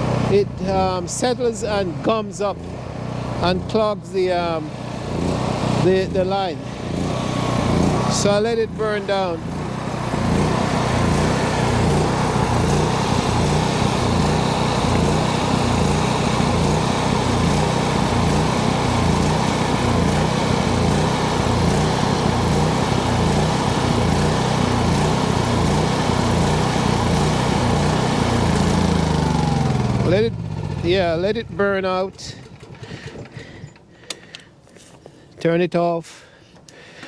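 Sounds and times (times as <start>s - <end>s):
generator engine running: 0.0s - 35.4s.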